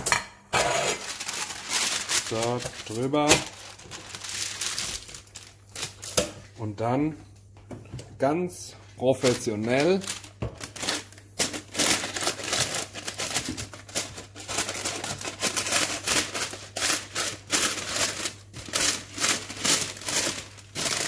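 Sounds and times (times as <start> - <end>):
baking paper crinkling: 0.6 - 6.5, 8.7 - 21.0.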